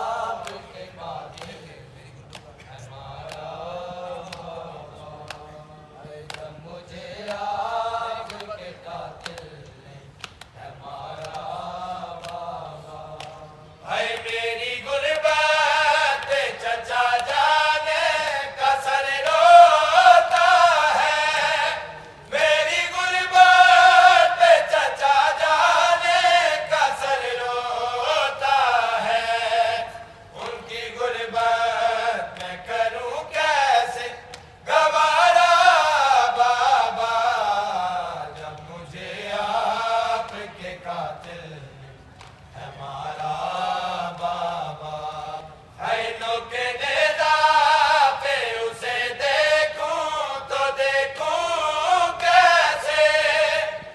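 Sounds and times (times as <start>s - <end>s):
men chanting a lament: 0.0s - 53.9s.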